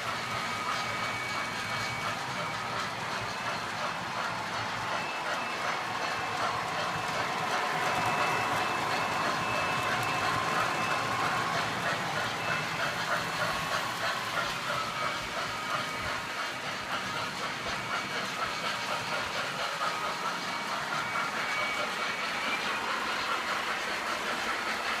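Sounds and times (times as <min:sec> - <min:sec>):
model train rolling: 0:00.0 - 0:25.0
wheels clicking over rails: 0:00.0 - 0:25.0.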